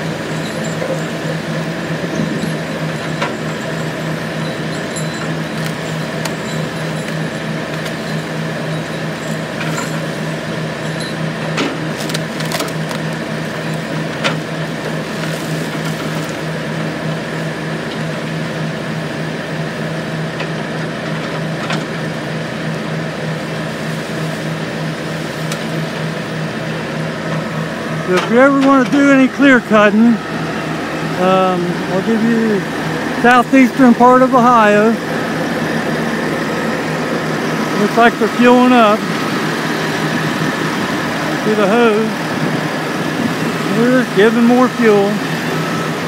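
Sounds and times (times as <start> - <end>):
engine humming steadily: 0.0 - 46.0.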